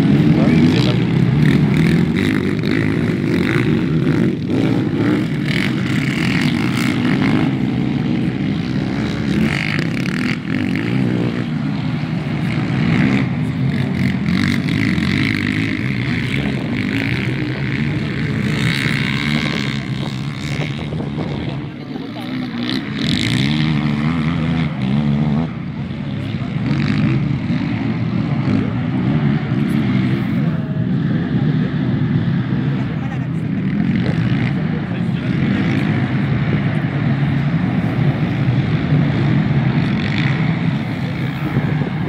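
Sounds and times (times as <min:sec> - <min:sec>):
quad bike engines revving: 0:00.0 - 0:42.0.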